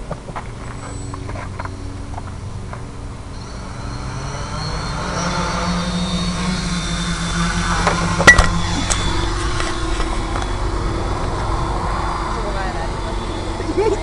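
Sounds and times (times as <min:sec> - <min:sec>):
drone motors whirring: 0:00.0 - 0:14.0.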